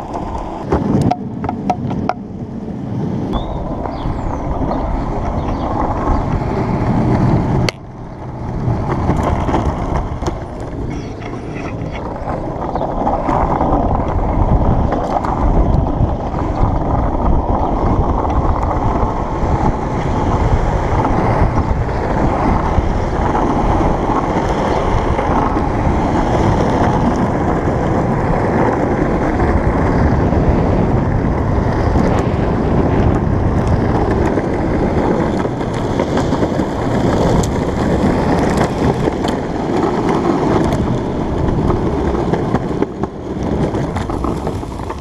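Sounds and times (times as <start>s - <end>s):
longboard wheels rumbling on asphalt: 0.0s - 45.0s
wind buffeting microphone: 0.0s - 45.0s.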